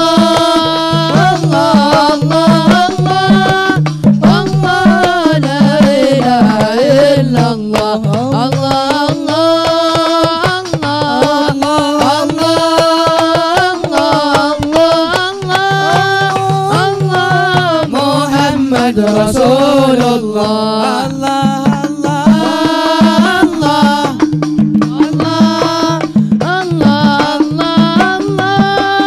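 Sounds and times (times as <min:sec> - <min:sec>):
hand drums beating: 0:00.0 - 0:29.0
man singing: 0:00.0 - 0:29.0.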